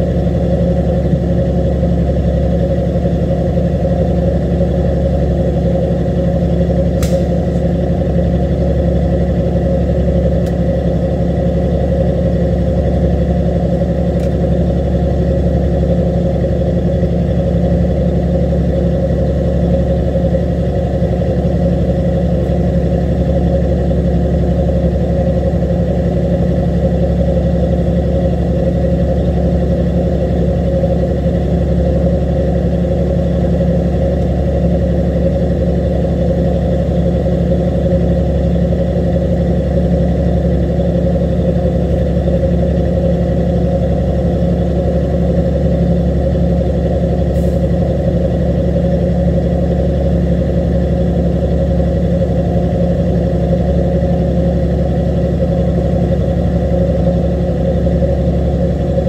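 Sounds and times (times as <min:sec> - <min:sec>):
diesel machinery droning: 0:00.0 - 0:59.0.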